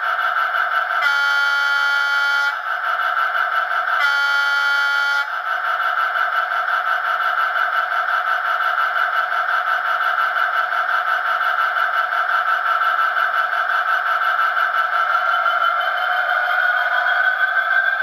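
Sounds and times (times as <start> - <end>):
model locomotive diesel engine sound: 0.0 - 18.0.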